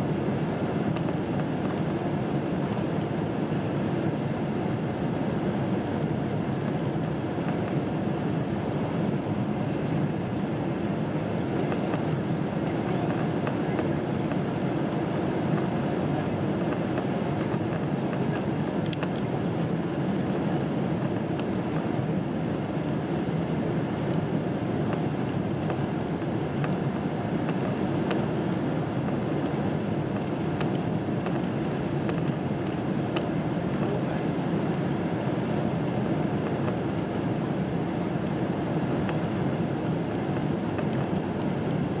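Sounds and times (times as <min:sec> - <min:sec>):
jet engine roar: 0:00.0 - 0:42.0.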